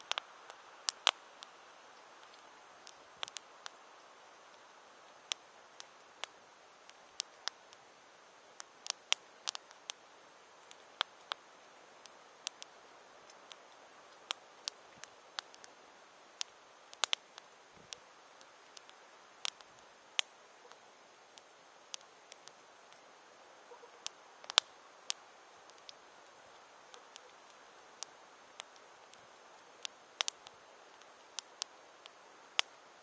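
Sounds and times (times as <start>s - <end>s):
campfire crackling: 0.0s - 33.0s
faint steady hiss: 0.0s - 33.0s.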